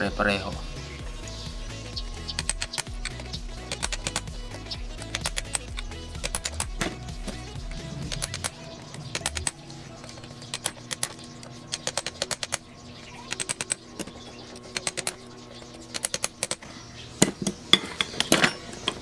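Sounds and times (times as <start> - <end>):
socket ratchet clicking: 2.2 - 12.6, 13.3 - 19.0.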